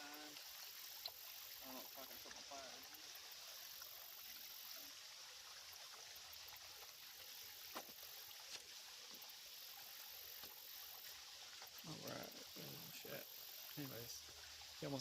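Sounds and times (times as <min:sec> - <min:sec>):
creek trickling: 0:00.0 - 0:15.0.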